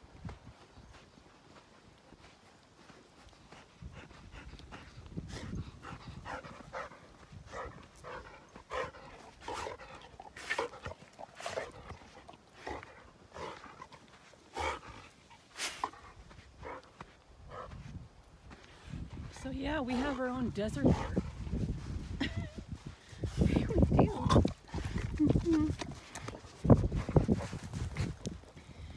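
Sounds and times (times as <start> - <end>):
footsteps on loose sand: 0.0 - 28.9
dog panting: 2.8 - 17.9, 19.7 - 28.4.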